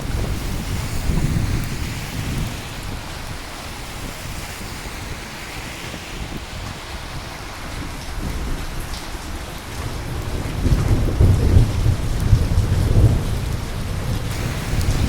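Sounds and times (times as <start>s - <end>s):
steady rain hissing: 0.0s - 15.0s
thunder rumbling: 0.0s - 15.0s.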